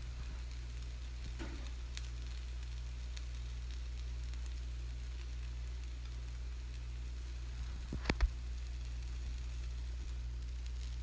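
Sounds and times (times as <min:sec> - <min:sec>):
batter sizzling on a griddle: 0:00.0 - 0:11.0
steady low hum: 0:00.0 - 0:11.0.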